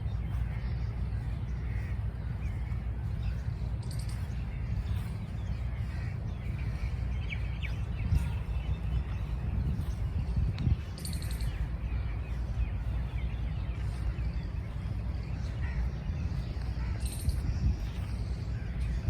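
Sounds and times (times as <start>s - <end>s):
high rapid bird trill: 0.0s - 19.0s
low rumble: 0.0s - 19.0s
songbirds chirping: 0.0s - 19.0s.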